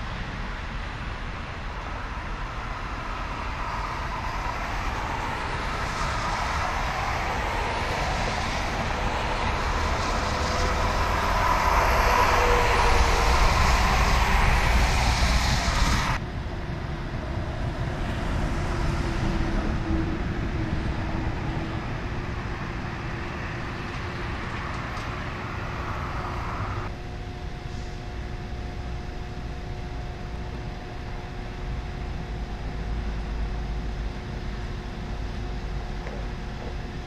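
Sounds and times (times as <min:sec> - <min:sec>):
freeway traffic rumble: 0:00.0 - 0:37.0
steady hum: 0:00.0 - 0:37.0.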